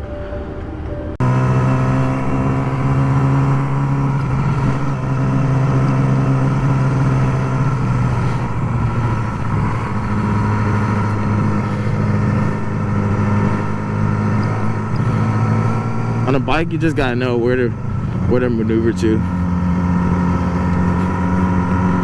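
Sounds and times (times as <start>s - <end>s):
low wind rumble: 0.0s - 22.0s
motorcycle engine running: 0.0s - 22.0s.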